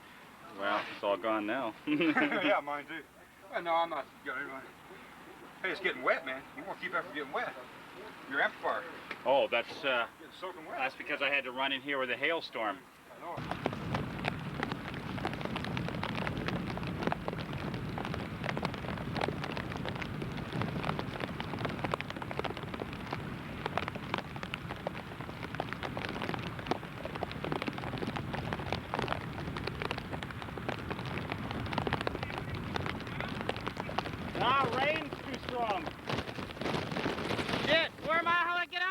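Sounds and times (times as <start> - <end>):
heavy rain: 0.0 - 12.0, 13.0 - 38.9.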